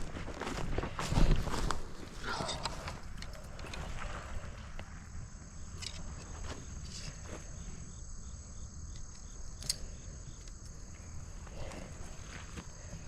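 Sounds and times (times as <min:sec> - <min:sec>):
high-pitched insect chorus: 0:00.8 - 0:13.0.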